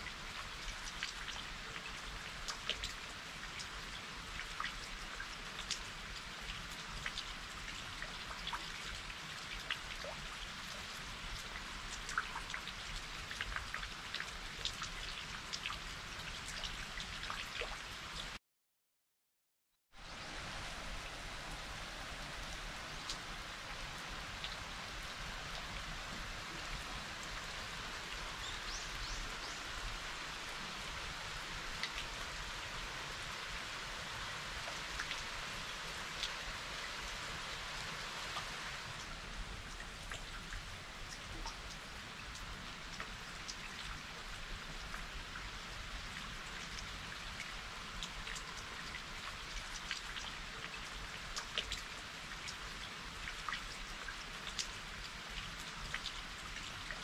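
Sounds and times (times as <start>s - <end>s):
rain falling: 0.0s - 18.4s, 20.0s - 57.0s.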